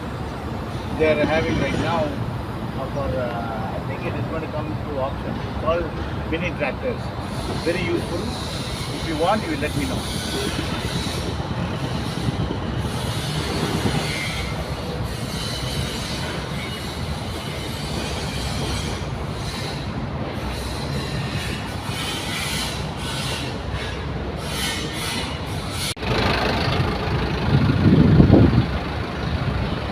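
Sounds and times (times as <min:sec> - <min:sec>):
heavy diesel machinery running: 0:00.0 - 0:29.9.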